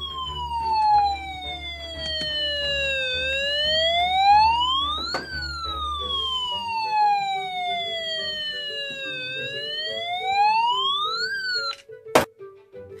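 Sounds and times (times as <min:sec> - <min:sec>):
wailing siren: 0:00.0 - 0:11.8.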